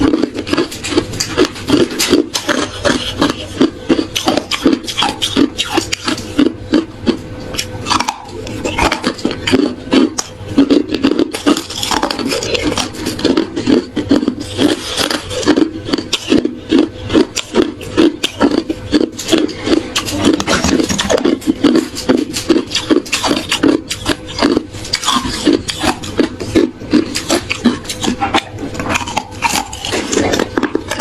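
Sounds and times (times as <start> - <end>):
chewing hard ice crunches: 0.0 - 31.0.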